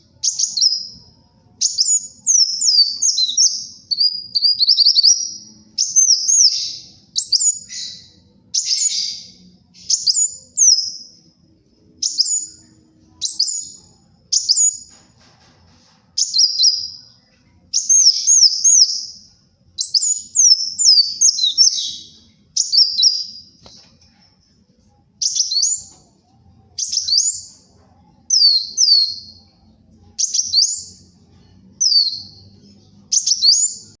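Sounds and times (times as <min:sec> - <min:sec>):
sunbird singing high phrases: 0:00.1 - 0:11.2, 0:12.0 - 0:14.9, 0:16.2 - 0:23.8, 0:25.2 - 0:26.1, 0:26.7 - 0:31.2, 0:31.8 - 0:34.0.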